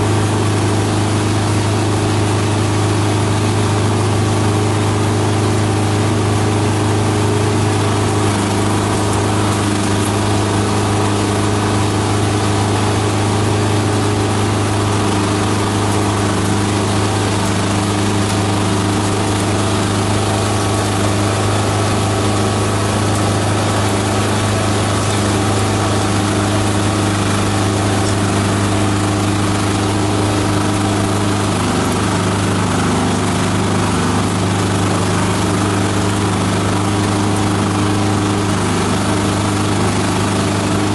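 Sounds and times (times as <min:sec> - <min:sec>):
shredder machine drone: 0:00.0 - 0:40.9.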